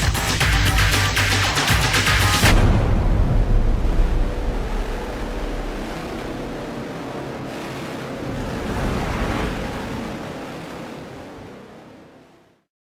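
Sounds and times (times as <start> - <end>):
steady rushing noise: 0.0 - 12.3.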